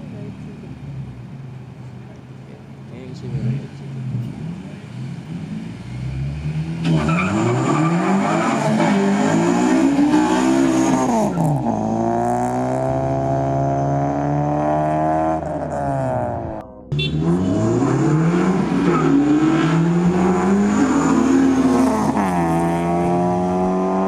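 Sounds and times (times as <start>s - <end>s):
car engine accelerating hard: 2.9s - 24.0s.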